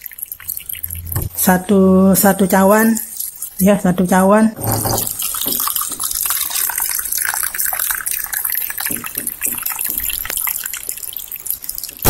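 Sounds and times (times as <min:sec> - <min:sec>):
water trickling into plastic cup: 0:00.0 - 0:12.0.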